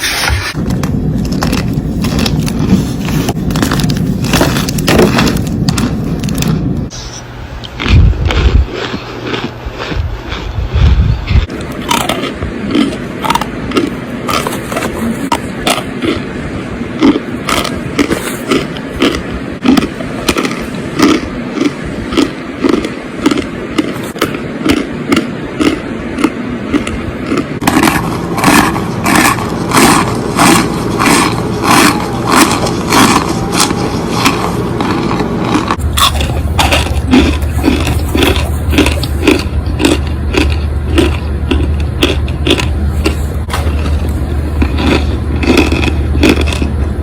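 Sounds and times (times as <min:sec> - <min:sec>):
close crunching: 0:00.0 - 0:10.5, 0:11.4 - 0:16.2, 0:17.0 - 0:46.8.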